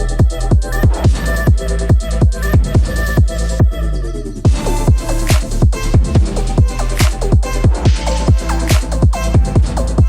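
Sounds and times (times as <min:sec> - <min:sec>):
electronic dance music: 0:00.0 - 0:03.7, 0:04.4 - 0:10.0
heavy kick drum: 0:00.2 - 0:03.8, 0:04.5 - 0:10.0.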